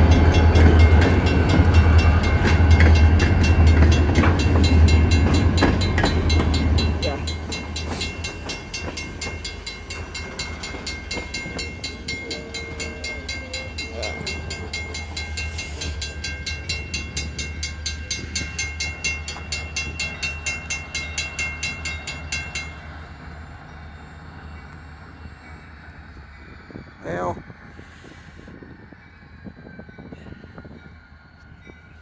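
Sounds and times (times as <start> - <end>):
crossing bell ringing: 0.0 - 27.6, 28.5 - 32.0
train cars rumbling past: 0.0 - 32.0.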